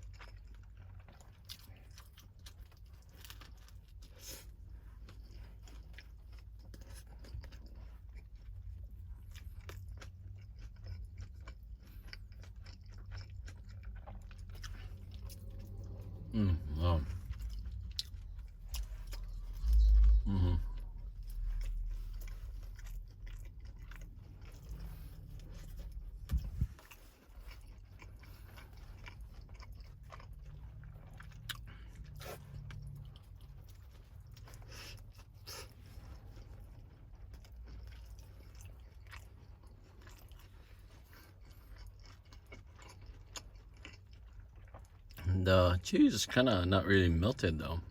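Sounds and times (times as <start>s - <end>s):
person chewing sandwich: 0.0s - 47.9s.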